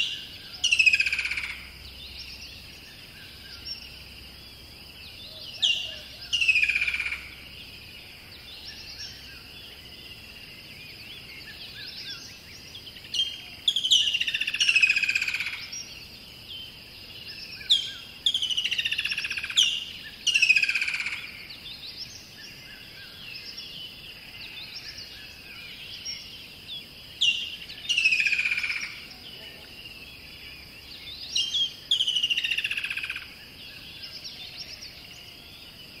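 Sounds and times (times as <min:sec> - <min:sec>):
faint bird chirps: 0:00.0 - 0:36.0.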